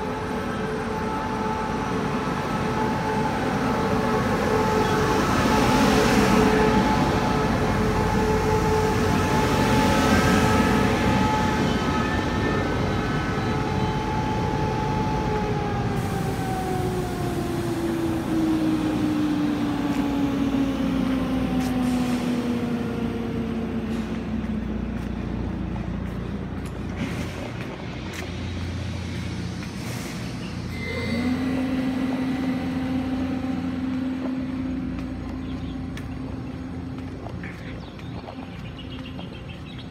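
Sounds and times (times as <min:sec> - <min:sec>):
train traction motor whine: 0:00.0 - 0:39.7
train wheels rumbling: 0:00.0 - 0:39.9.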